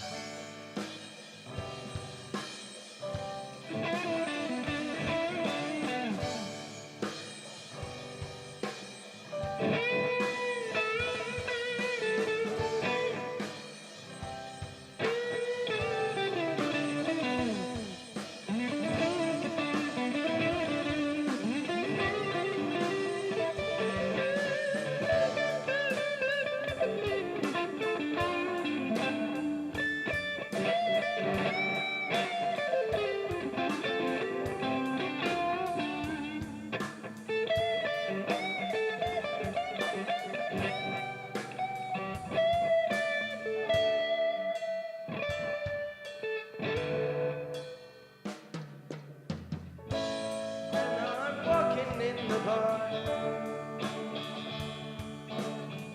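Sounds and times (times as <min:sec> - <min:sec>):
blues electric guitar lead: 0:00.0 - 0:55.9.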